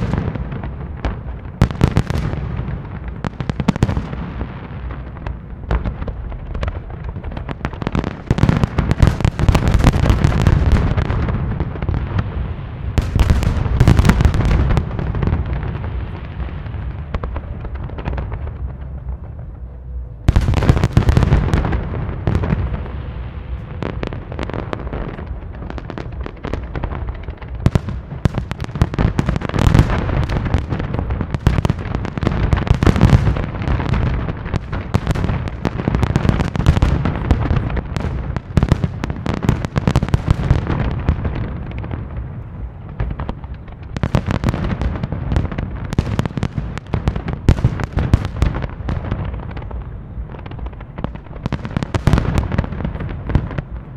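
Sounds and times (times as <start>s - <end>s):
fireworks booming and crackling: 0.0s - 53.9s.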